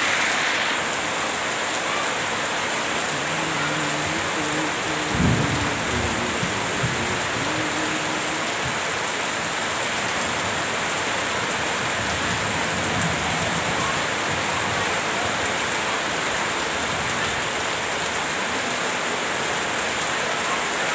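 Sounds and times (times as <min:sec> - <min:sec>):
heavy rain on leaves and ground: 0:00.0 - 0:20.9.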